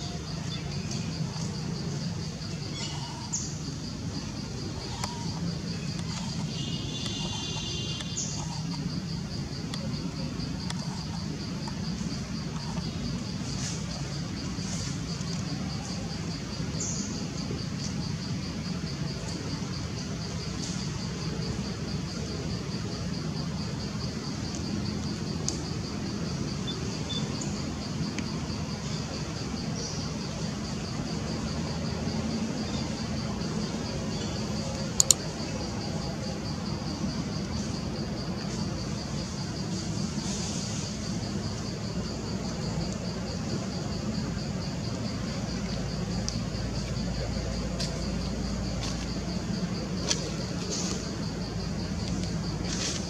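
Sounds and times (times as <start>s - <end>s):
insect calling in steady pulse: 0.0s - 53.0s.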